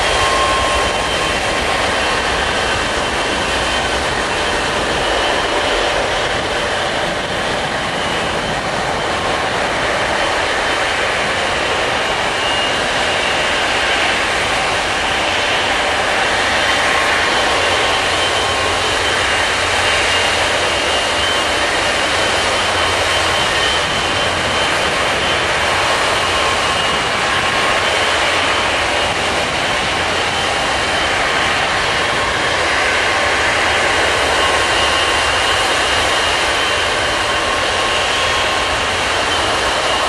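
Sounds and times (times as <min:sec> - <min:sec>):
jet engine roar with high whine: 0:00.0 - 0:40.0.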